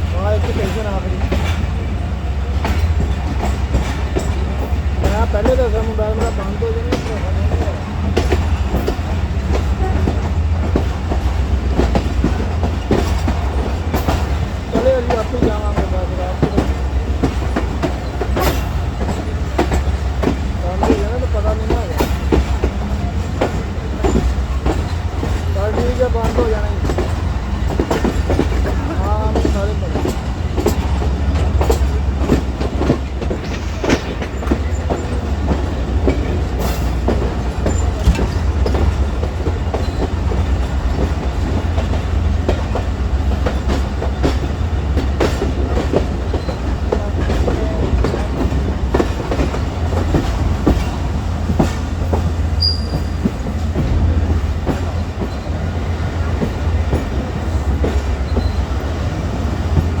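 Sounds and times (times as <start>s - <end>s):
heavy low train rumble: 0.0s - 60.0s
train wheels clattering on rails: 0.0s - 60.0s.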